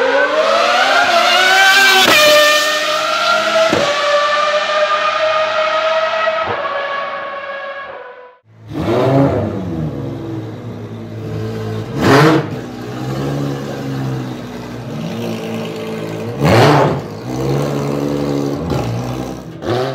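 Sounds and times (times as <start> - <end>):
race car engine idling and revving: 0.0 - 7.3, 8.4 - 19.9.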